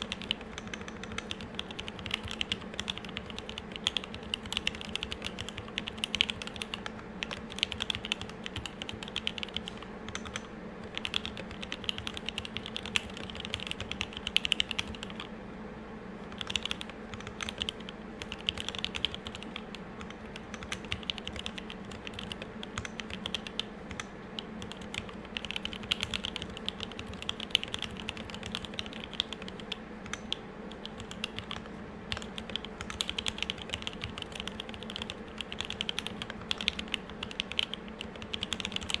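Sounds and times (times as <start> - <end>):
fast mechanical keyboard typing: 0.0 - 15.3, 16.2 - 39.0
faint steady hum: 0.0 - 39.0.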